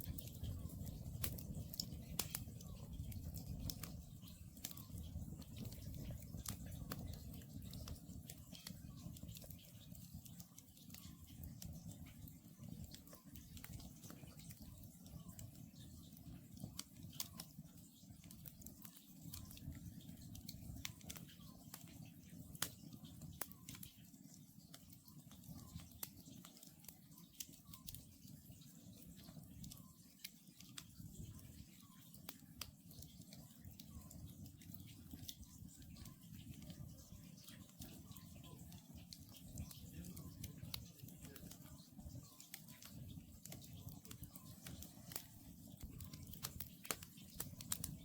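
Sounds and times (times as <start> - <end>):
campfire crackling and popping: 0.0 - 48.0.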